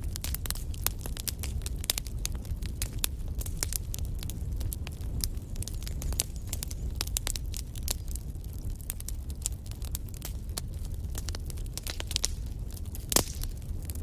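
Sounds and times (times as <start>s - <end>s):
fire crackling and popping: 0.0s - 14.0s
low rumble of flame: 0.0s - 14.0s.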